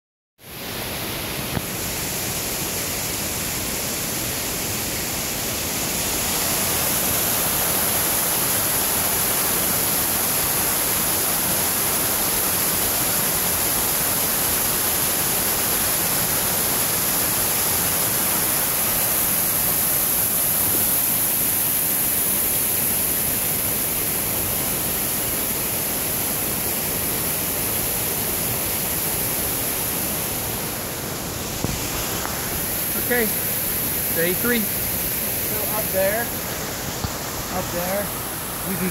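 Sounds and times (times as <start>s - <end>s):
waterfall rushing over rocks: 0.4s - 38.9s.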